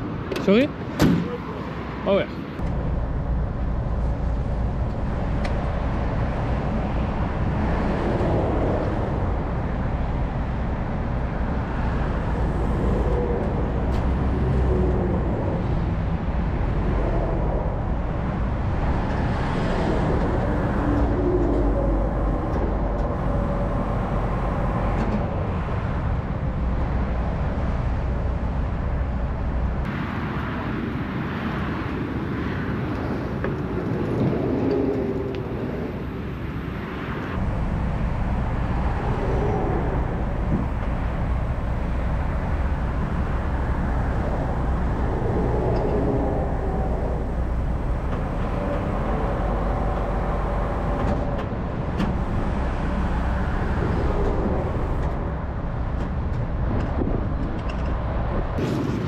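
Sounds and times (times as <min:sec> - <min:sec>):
road vehicle low rumble: 0:00.0 - 0:30.8, 0:32.9 - 0:59.0.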